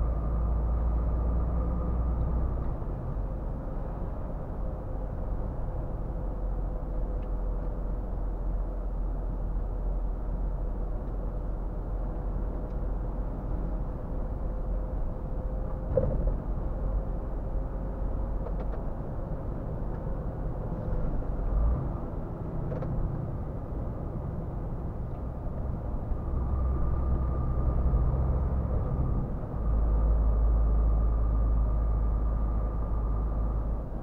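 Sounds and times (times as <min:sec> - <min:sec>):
road noise: 0:00.0 - 0:34.0
truck diesel engine: 0:00.0 - 0:34.0.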